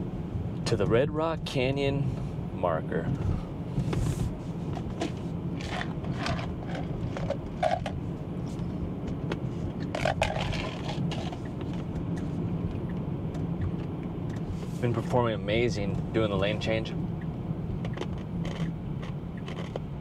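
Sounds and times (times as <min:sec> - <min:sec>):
road and tyre rumble in car: 0:00.0 - 0:20.0.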